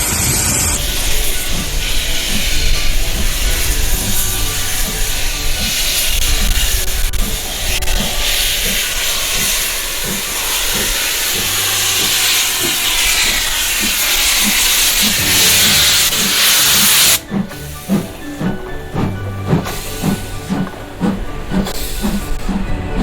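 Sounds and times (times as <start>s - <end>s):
steam hissing from locomotive: 0.0s - 23.0s.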